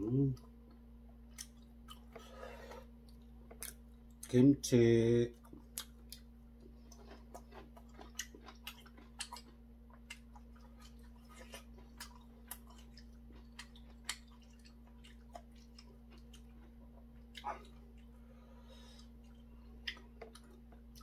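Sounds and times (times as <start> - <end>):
steady low hum: 0.0 - 21.0
person chewing: 0.2 - 4.4, 5.3 - 21.0.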